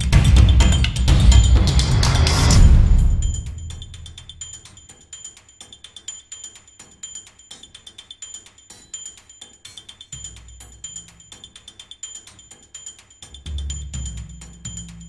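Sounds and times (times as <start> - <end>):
ticking percussion music: 0.0 - 15.0.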